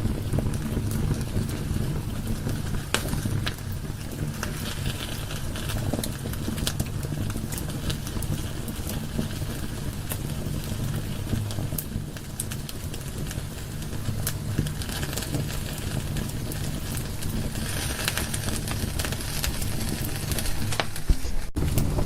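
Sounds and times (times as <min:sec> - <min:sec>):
logs crackling and popping: 0:00.0 - 0:22.0
low rumble of flames: 0:00.0 - 0:22.0.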